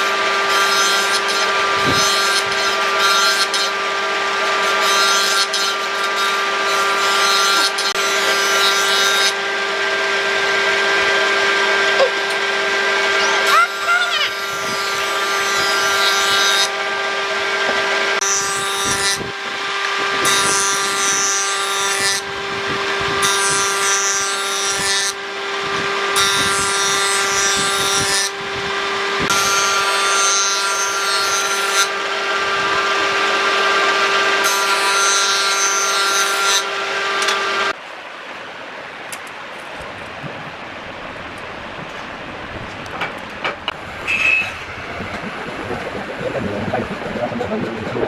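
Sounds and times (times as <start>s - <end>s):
jointer humming: 0.0s - 37.8s, 39.1s - 48.0s
wood cutting on jointer: 0.0s - 37.8s, 43.7s - 48.0s.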